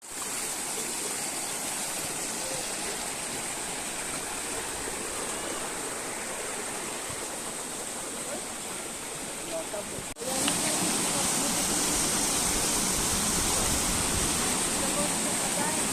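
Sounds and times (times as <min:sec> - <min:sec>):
flowing water rushing: 0:00.0 - 0:15.9.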